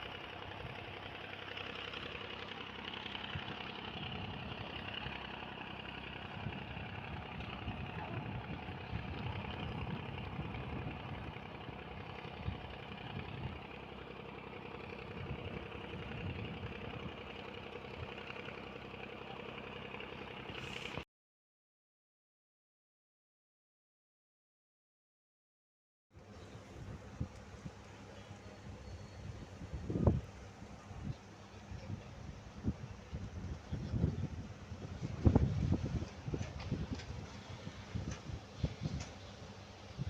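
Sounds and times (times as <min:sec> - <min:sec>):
engine idling: 0:00.0 - 0:21.0, 0:26.2 - 0:40.0.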